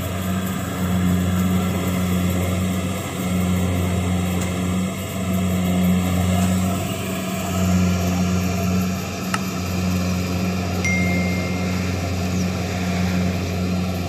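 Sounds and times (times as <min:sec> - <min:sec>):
diesel harvester drone: 0:00.0 - 0:14.0.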